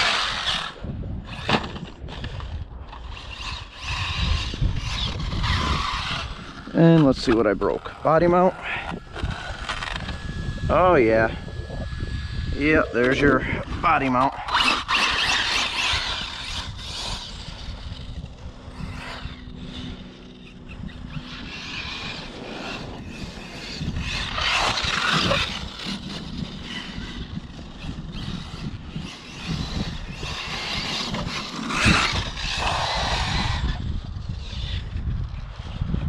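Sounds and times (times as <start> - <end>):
rc truck motor and tyres: 0.0 - 36.0.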